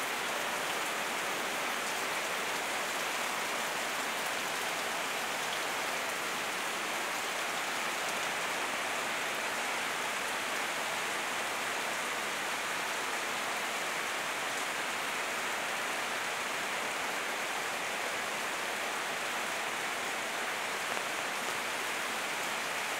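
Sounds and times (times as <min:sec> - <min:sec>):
rain on leaves and pavement: 0:00.0 - 0:22.9.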